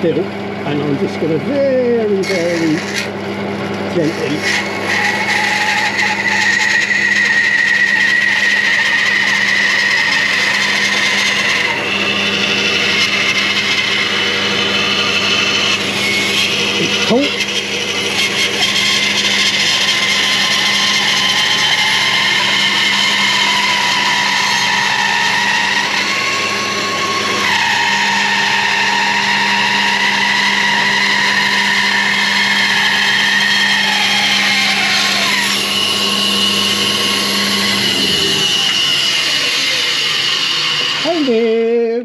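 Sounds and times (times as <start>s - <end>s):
bandsaw cutting wood: 0.0s - 41.7s.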